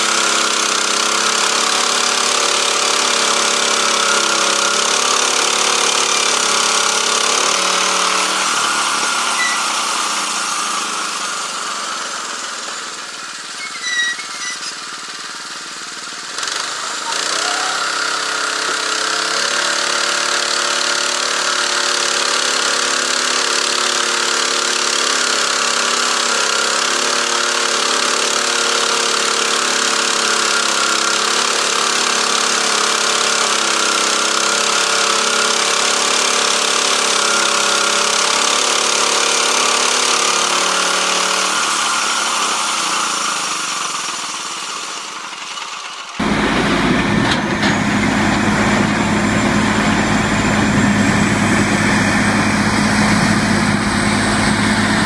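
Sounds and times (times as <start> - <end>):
portable sawmill engine running: 0.0 - 55.0
saw blade cutting through log: 0.0 - 55.0.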